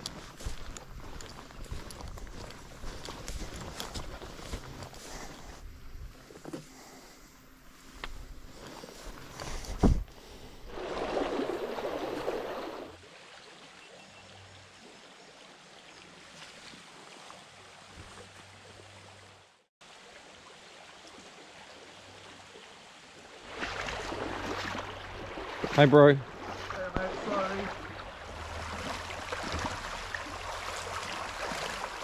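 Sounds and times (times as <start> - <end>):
stream water running: 0.0 - 32.0.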